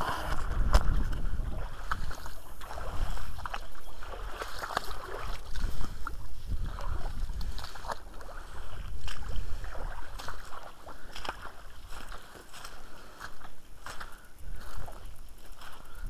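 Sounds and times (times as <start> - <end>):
water sloshing and splashing: 0.0 - 14.0
steps on twigs and mud: 0.0 - 16.0.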